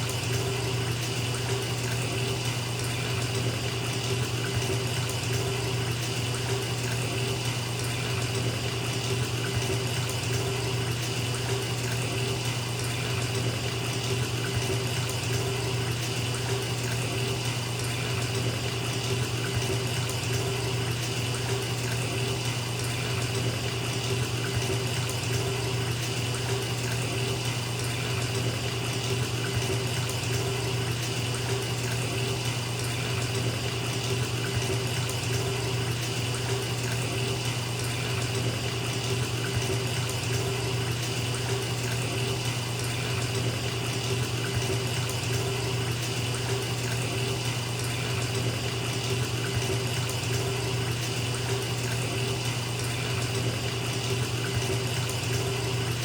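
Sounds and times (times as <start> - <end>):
tap water pouring into tub: 0.0 - 56.0.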